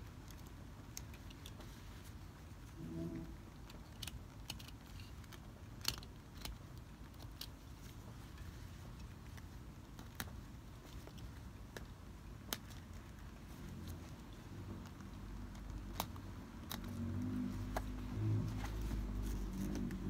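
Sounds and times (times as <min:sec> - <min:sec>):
low steady hum: 0:00.0 - 0:20.0
stitches snapping: 0:03.6 - 0:20.0.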